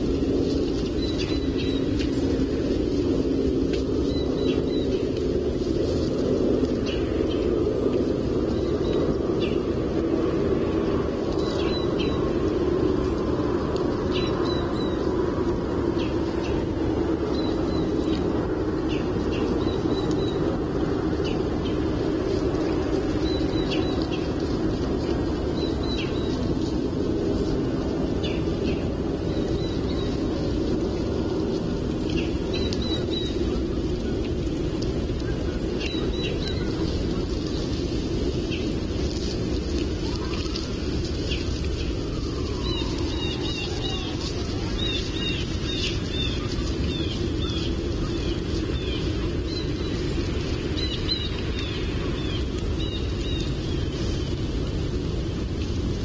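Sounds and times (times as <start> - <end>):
low rumbling noise: 0.0 - 56.0.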